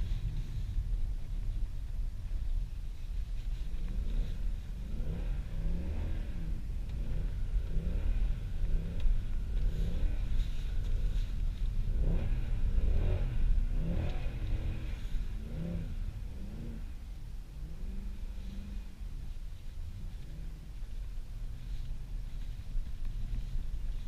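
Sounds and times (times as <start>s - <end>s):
car engine revving: 3.0s - 24.0s.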